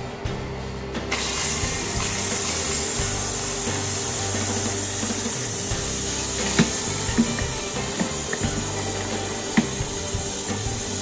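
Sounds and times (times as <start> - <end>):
water pouring and splashing: 1.2 - 11.0.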